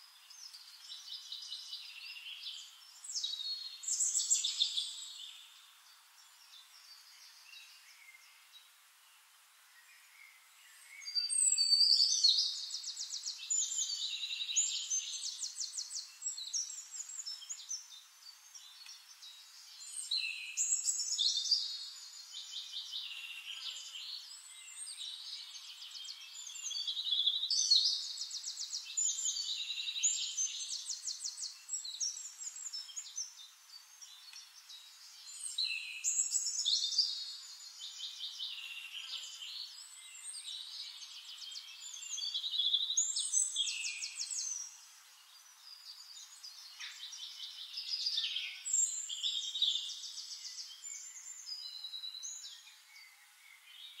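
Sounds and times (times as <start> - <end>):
bird-like chirping and trills: 0.0 - 54.0.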